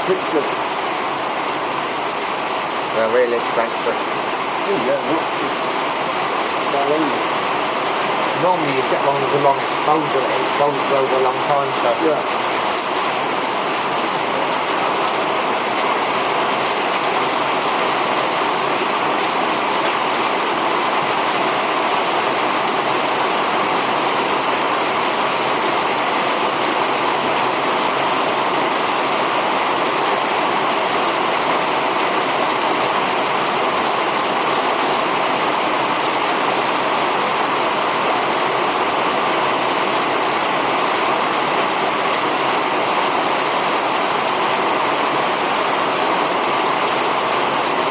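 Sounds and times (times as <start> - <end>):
torrential rain falling: 0.0 - 47.9.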